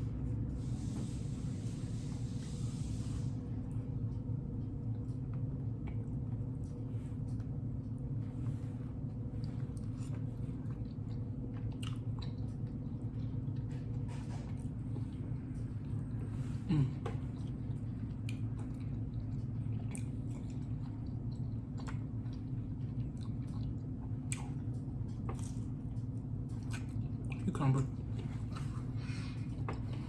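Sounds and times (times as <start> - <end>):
steady low hum: 0.0 - 30.0
person chewing food: 3.9 - 30.0.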